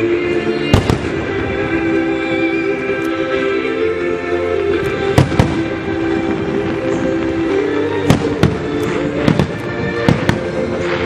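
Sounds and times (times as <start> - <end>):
fireworks bursting: 0.0 - 11.0
music: 0.0 - 11.0.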